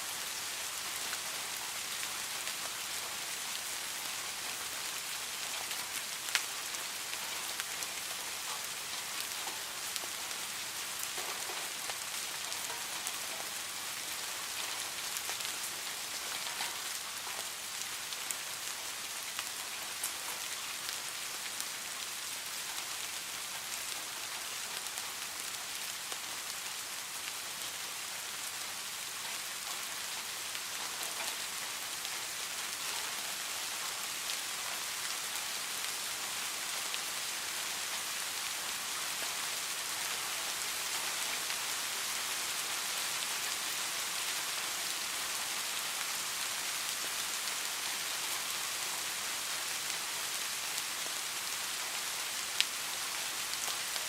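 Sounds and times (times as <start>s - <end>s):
steady rain hiss: 0.0s - 54.0s
rain drops ticking: 0.1s - 54.0s.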